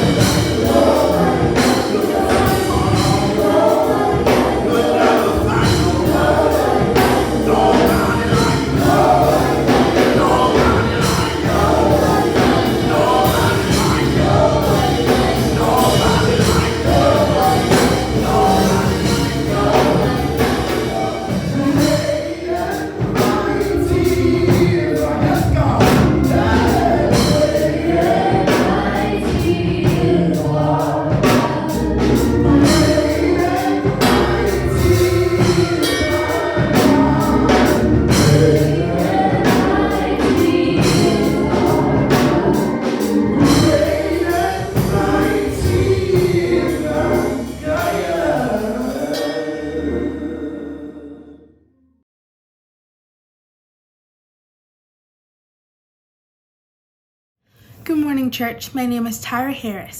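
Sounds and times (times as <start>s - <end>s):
band accompaniment with steady beat: 0.0s - 50.0s
choir singing gospel music: 0.0s - 51.6s.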